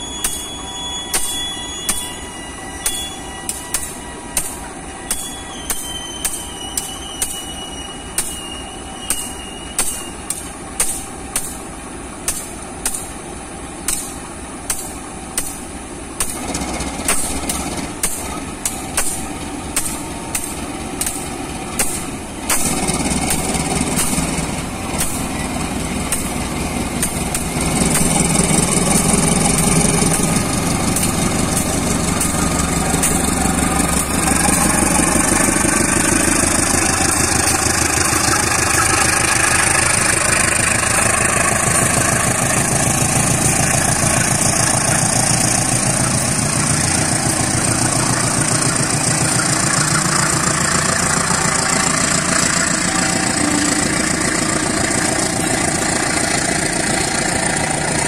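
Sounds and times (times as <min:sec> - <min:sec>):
diesel locomotive running: 0:00.0 - 0:58.0
wheels clicking over rail joints: 0:08.2 - 0:58.0.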